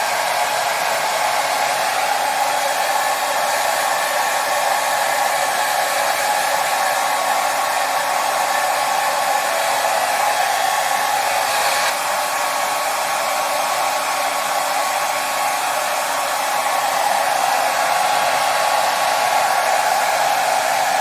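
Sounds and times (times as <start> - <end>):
hair dryer running: 0.0 - 21.0.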